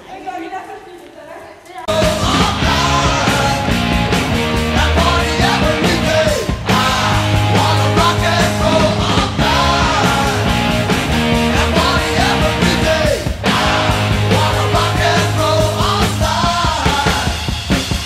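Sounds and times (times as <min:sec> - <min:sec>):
loud rock music with singing: 0:01.9 - 0:18.0.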